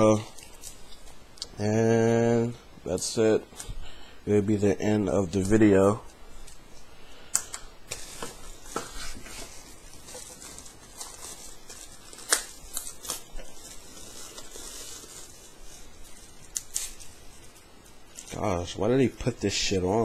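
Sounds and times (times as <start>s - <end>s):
cables rustling and crinkling: 0.0s - 3.9s, 4.5s - 20.0s.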